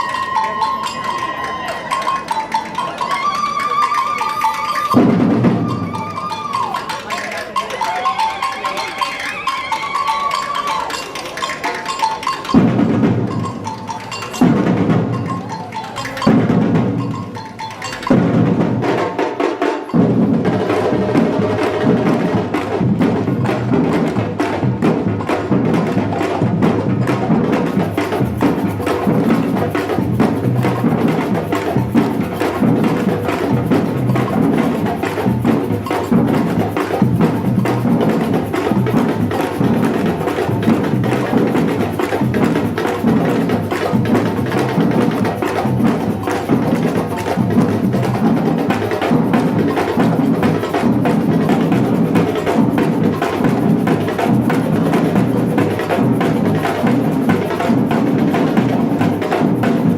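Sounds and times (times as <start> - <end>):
samba percussion group playing: 0.0 - 59.9.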